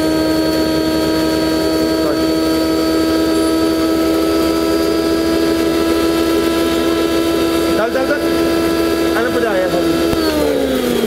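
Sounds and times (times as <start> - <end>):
electric flour mill grinding: 0.0 - 11.0.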